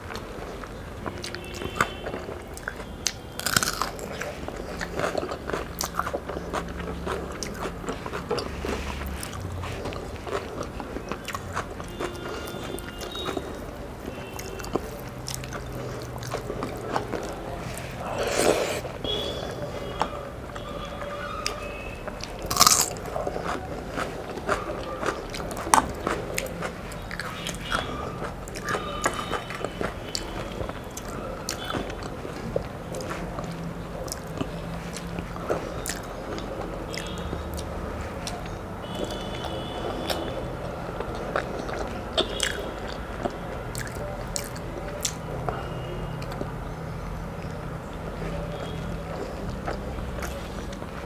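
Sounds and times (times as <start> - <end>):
chewing and mouth sounds: 0.0 - 51.0.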